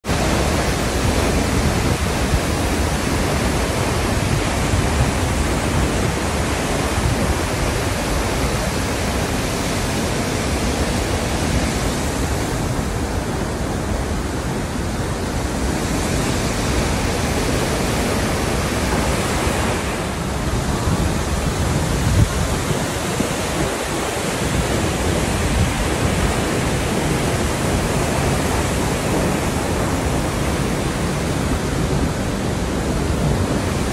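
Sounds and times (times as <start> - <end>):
waterfall rushing into pool: 0.0 - 33.9.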